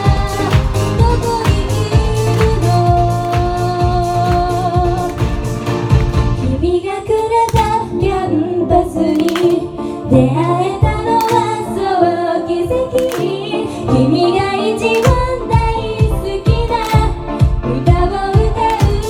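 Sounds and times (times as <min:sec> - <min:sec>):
women singing into microphones: 0:00.0 - 0:05.3, 0:06.4 - 0:19.0
amplified pop music with beat: 0:00.0 - 0:19.0.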